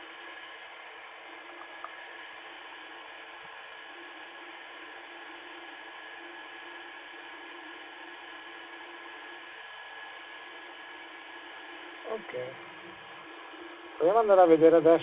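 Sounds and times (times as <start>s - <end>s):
faint high whine: 0.0s - 15.0s
steady hiss: 0.0s - 15.0s.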